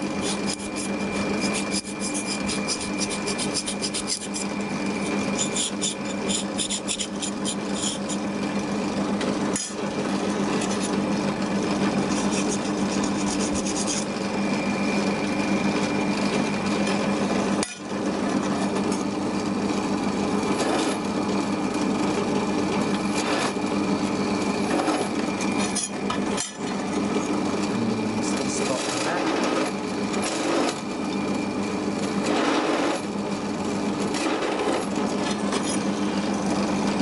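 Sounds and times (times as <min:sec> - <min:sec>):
drill press motor hum: 0:00.0 - 0:37.0.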